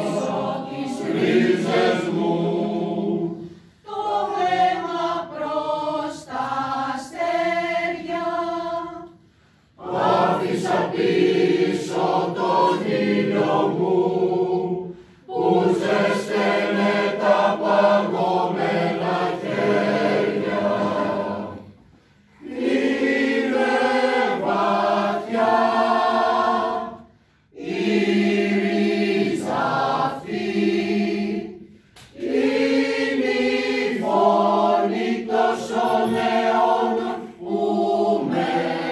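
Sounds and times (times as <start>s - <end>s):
mixed choir singing a cappella: 0.0s - 38.9s.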